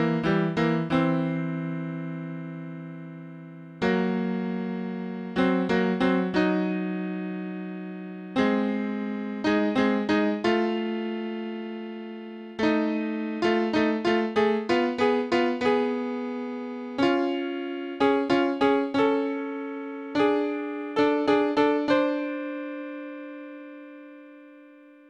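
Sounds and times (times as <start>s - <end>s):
piano-like keyboard music: 0.0s - 25.0s.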